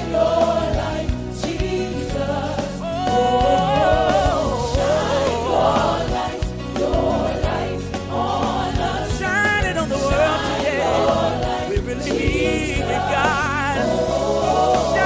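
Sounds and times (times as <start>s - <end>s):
bass: 0.0s - 15.0s
choir singing: 0.0s - 15.0s
drum beat: 0.0s - 15.0s
keyboard: 0.0s - 15.0s.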